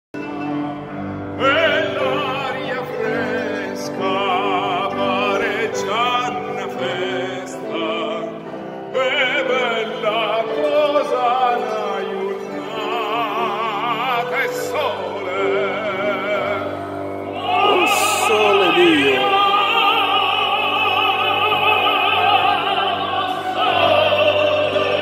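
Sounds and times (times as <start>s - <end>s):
piano: 0.1s - 25.0s
cello: 0.2s - 25.0s
operatic tenor singing: 0.2s - 25.0s.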